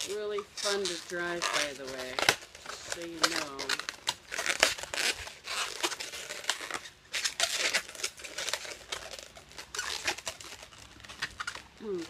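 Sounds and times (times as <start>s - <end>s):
balloons twisting and squeaking: 0.0s - 12.0s.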